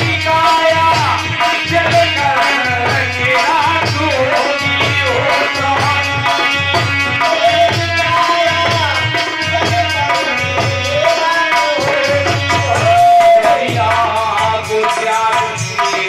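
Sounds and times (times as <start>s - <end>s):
hand drum beat: 0.0s - 16.0s.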